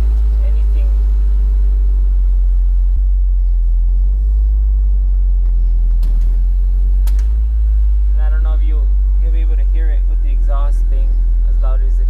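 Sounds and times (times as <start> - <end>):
car engine with loud exhaust: 0.0 - 12.0.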